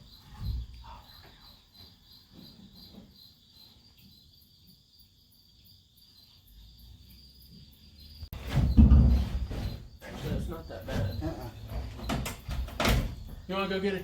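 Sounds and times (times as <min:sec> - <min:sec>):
insect chirping trill: 0:00.0 - 0:14.0.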